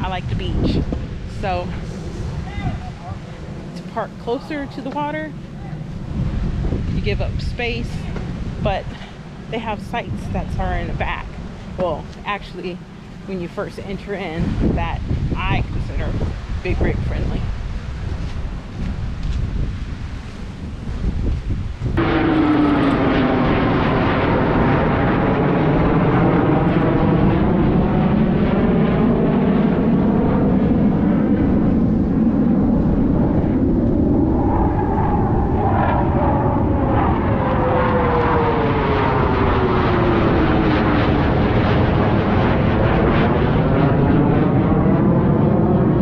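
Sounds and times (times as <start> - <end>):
airplane engine drone overhead: 0.0 - 46.0.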